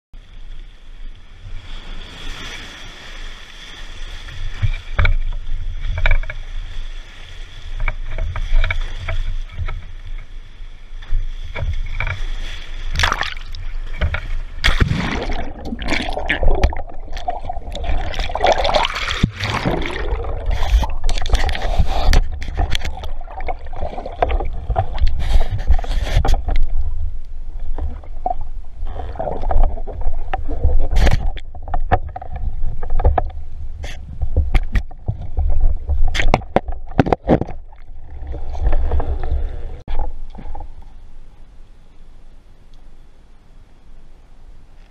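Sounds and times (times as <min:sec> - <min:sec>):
water splashing and churning: 0:00.2 - 0:41.4.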